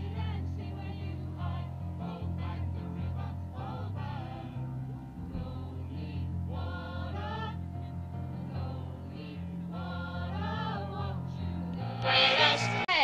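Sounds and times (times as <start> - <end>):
electronic keyboard low notes: 0.0 - 12.9
choir singing a carol: 0.0 - 13.0.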